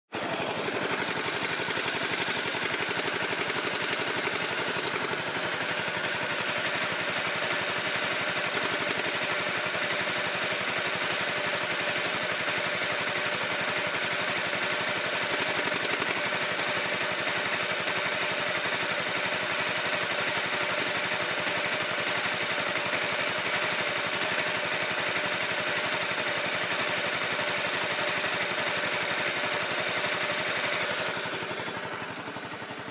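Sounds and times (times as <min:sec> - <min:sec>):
motorcycle engine idling: 0:00.1 - 0:32.9.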